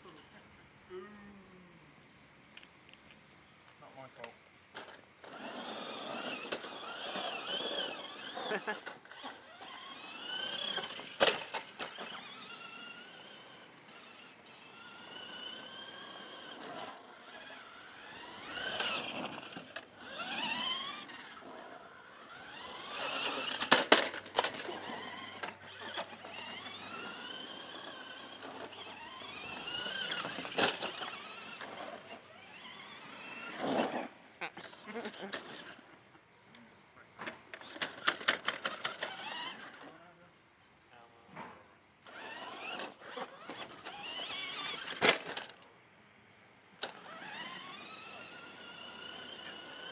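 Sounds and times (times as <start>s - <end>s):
electric motor and gears whining: 4.1s - 35.9s, 37.2s - 40.1s, 42.0s - 45.6s, 46.8s - 49.9s.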